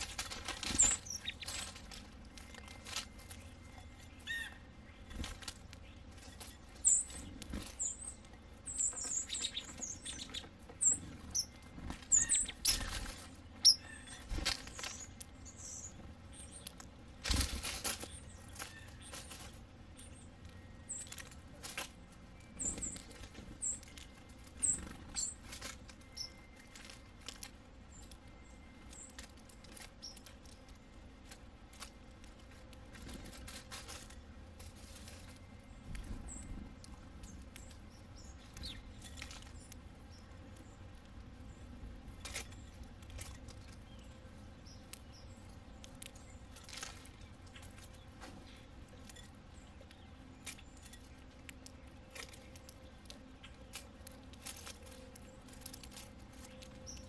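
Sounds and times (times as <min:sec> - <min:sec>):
pecking and rustling in dry leaves: 0:00.0 - 0:57.0
sparrows chirping: 0:00.0 - 0:57.0.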